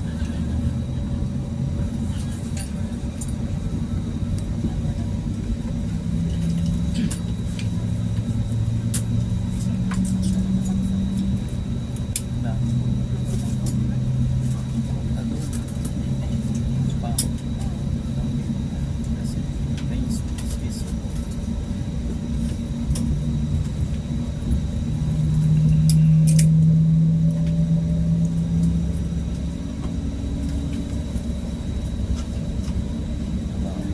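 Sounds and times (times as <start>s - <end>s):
aircraft cabin engine rumble: 0.0s - 33.9s.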